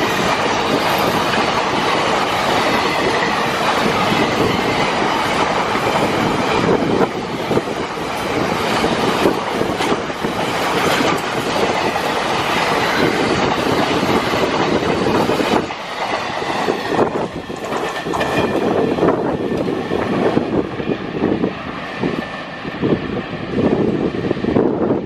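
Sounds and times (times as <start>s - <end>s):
train passing: 0.0s - 25.0s.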